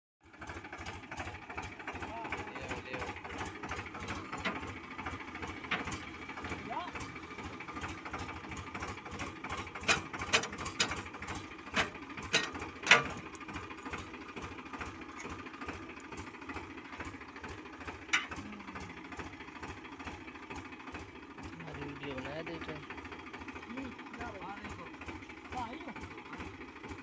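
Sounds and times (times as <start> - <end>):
tractor diesel engine idling: 0.2 - 27.0
steel implement frame clanking: 0.5 - 27.0.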